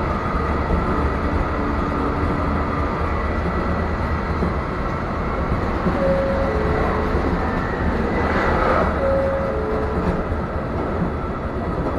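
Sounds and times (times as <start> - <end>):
train low rumble: 0.0 - 11.9.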